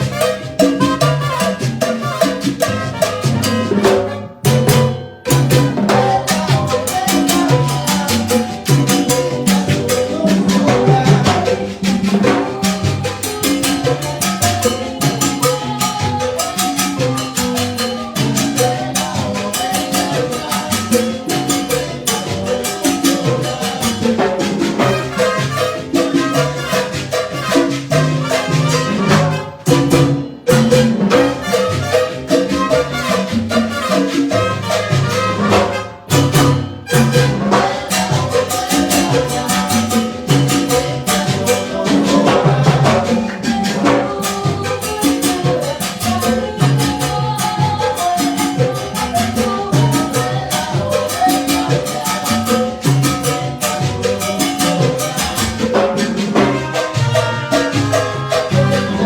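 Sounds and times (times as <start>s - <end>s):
live band with brass and drums: 0.0s - 59.0s.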